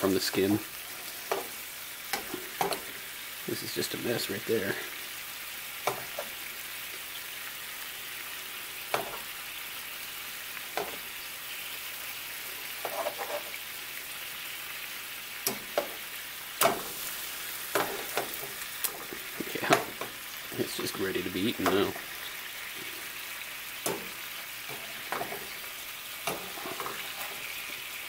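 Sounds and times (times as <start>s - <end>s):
fish sizzling in frying pan: 0.0s - 28.0s.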